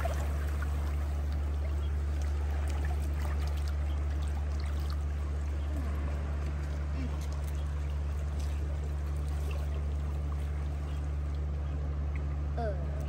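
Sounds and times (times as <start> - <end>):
sea water washing among rocks: 0.0 - 11.3
steady low hum: 0.0 - 13.0.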